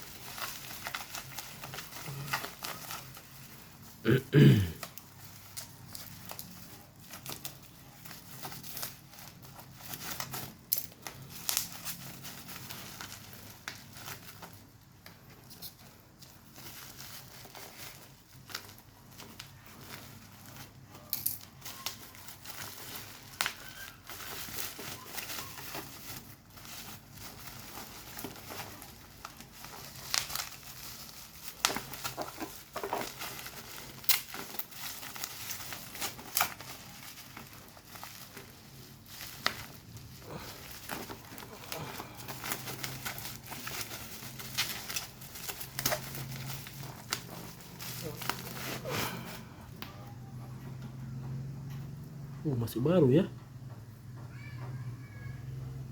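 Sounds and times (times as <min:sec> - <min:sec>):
plastic and cardboard crinkling: 0:00.0 - 0:55.9.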